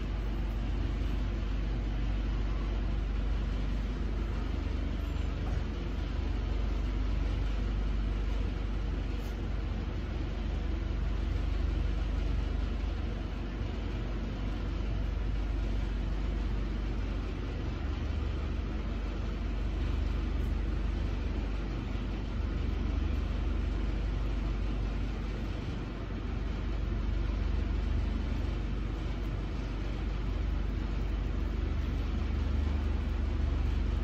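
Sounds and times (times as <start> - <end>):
machinery rumbling: 0.0 - 34.0.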